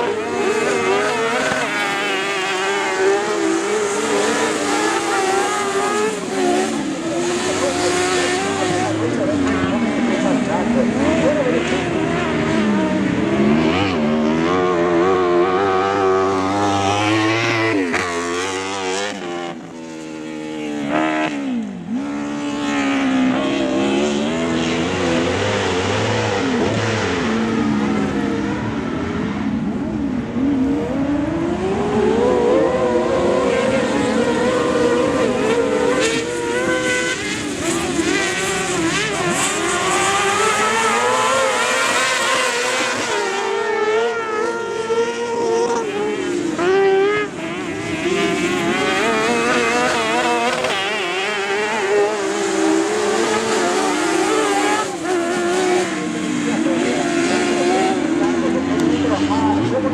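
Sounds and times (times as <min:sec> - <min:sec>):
buggy engines revving: 0:00.0 - 0:59.9.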